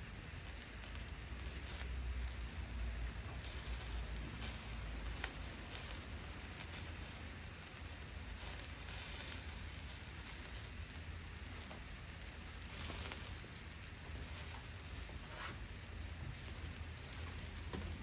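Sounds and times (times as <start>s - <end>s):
campfire crackling: 0.0s - 18.0s
offal grilling: 0.0s - 18.0s.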